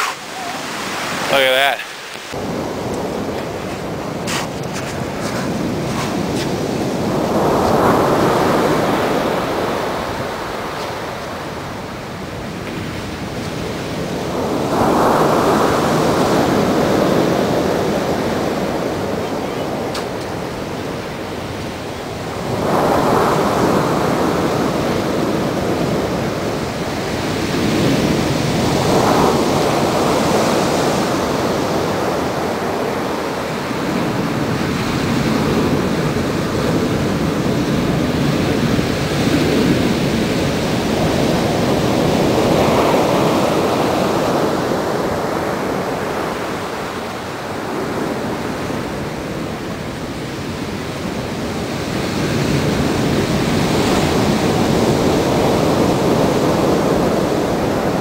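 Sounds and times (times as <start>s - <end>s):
ocean waves breaking: 0.0s - 58.0s
surf washing up shore: 0.0s - 58.0s.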